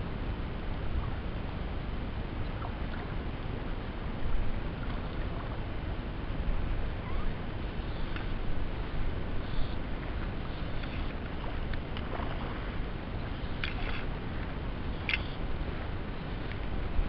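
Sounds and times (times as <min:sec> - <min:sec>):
wind and water rushing: 0:00.0 - 0:17.0.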